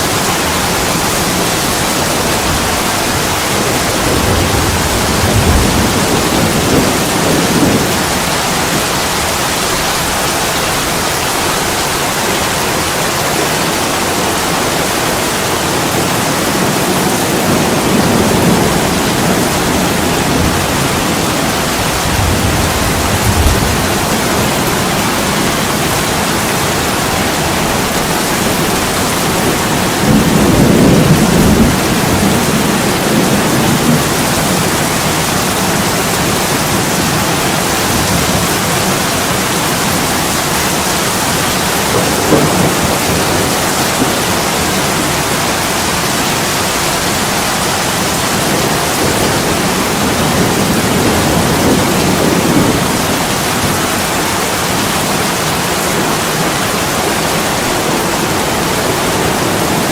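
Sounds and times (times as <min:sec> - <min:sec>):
heavy rain on window glass: 0:00.0 - 0:59.9.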